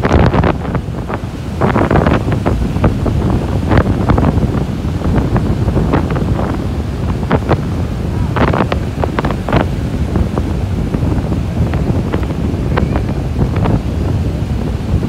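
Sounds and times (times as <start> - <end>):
strong wind buffeting microphone: 0.0 - 15.0
waves breaking on a beach: 0.0 - 15.0.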